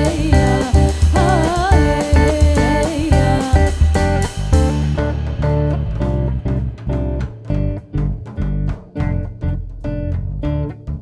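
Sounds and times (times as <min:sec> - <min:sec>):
bass guitar: 0:00.0 - 0:11.0
drums: 0:00.0 - 0:11.0
electric guitar chords: 0:00.0 - 0:11.0.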